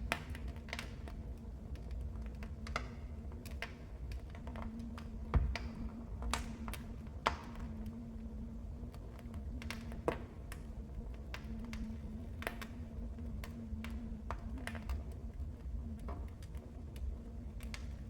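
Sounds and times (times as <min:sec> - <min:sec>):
fire crackles and pops: 0:00.0 - 0:18.0
fire flames rumbling: 0:00.0 - 0:18.0.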